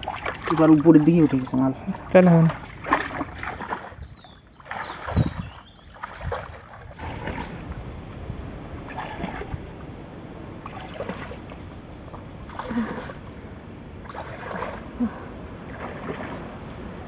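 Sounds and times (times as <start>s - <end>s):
splashing in muddy water: 0.0s - 16.8s.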